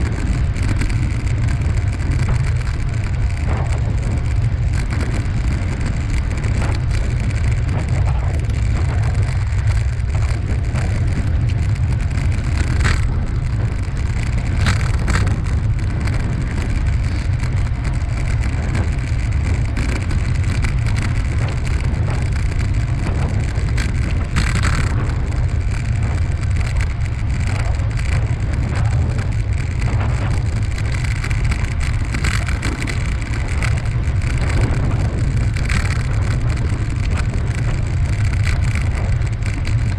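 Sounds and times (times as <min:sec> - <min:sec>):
bicycle tyres hissing: 0:00.0 - 0:39.9
wind rumble on microphone: 0:00.0 - 0:39.9.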